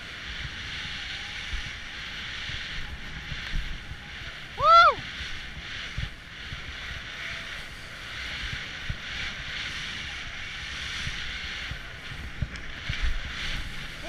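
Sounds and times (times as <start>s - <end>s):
low bumps from uneven snow: 0.0s - 14.0s
skis sliding on snow hiss: 0.0s - 14.0s
wind rushing over microphone: 0.0s - 14.0s.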